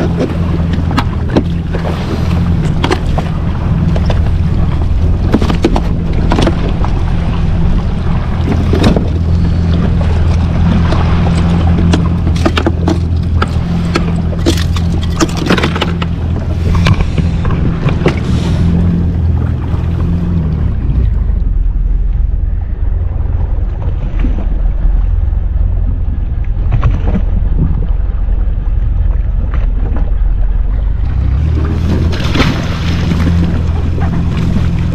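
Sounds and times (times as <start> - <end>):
jet ski engine idling: 0.0 - 34.9
water splashing: 0.0 - 34.9.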